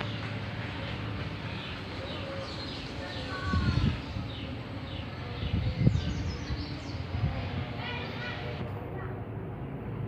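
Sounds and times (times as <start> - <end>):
birds chirping: 0.0 - 8.5.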